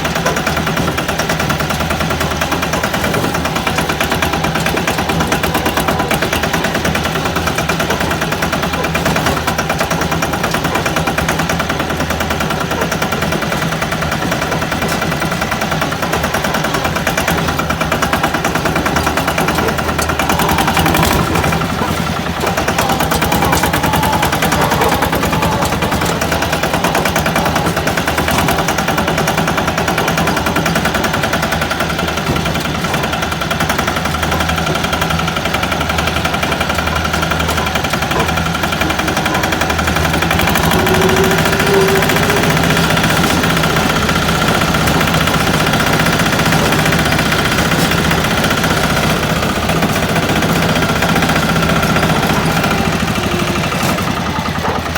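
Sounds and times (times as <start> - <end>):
single-cylinder engine running: 0.0 - 54.9.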